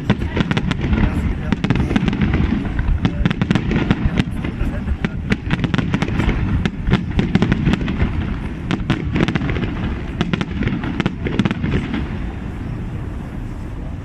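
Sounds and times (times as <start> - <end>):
fireworks banging and crackling: 0.0 - 13.5.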